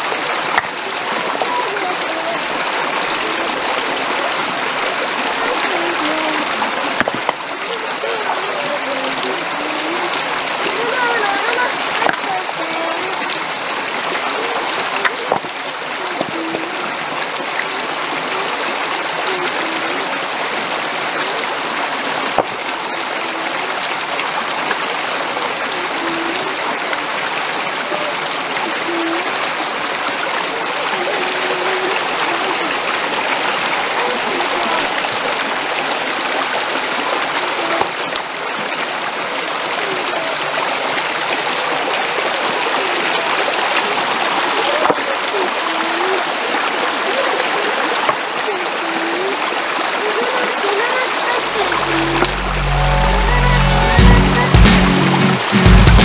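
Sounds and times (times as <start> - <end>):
river water flowing: 0.0 - 56.0.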